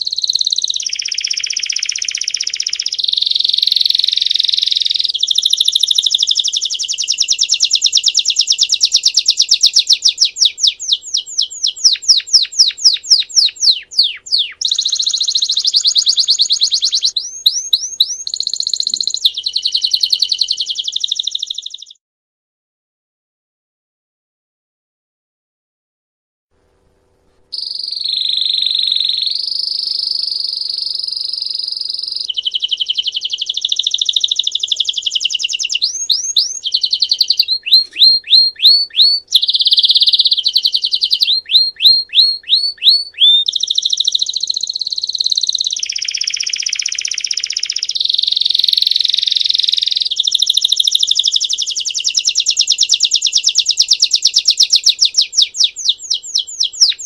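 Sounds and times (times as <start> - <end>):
canary singing with trills: 0.0 - 22.0, 27.6 - 57.0.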